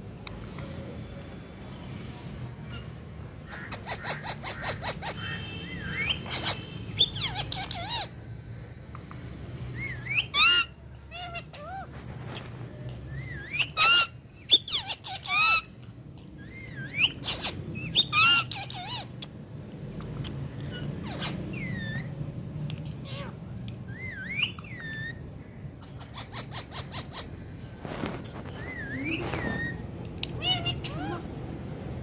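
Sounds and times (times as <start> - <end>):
parakeet squawking and chirping: 2.6 - 8.3, 9.7 - 15.8, 16.4 - 32.0.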